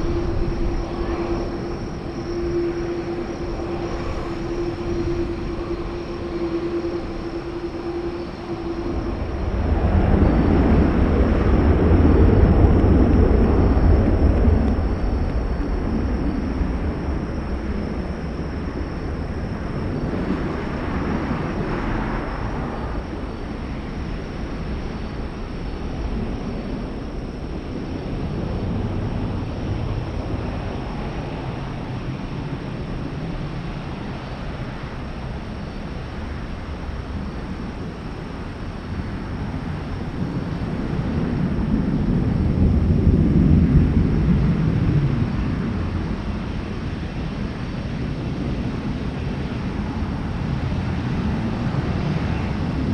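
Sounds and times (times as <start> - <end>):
jet airliner engines rumbling: 0.0 - 52.9.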